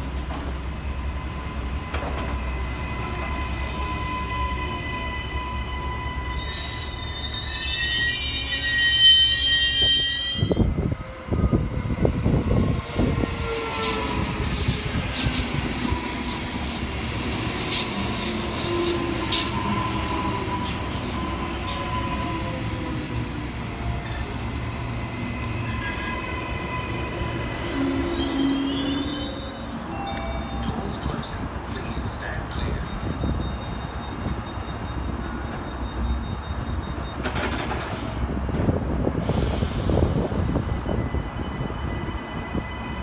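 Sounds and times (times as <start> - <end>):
train rolling on rails: 0.0 - 43.0
train wheel squeal: 1.2 - 23.0, 23.8 - 38.3, 39.3 - 43.0.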